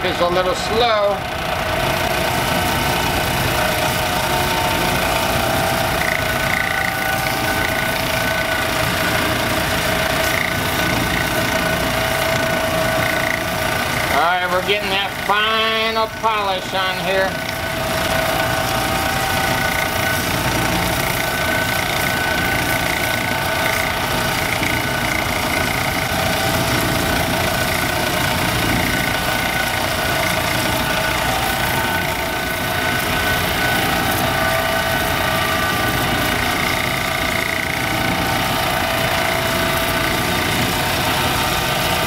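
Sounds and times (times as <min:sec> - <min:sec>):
electric drum sander whining: 0:00.0 - 0:42.0.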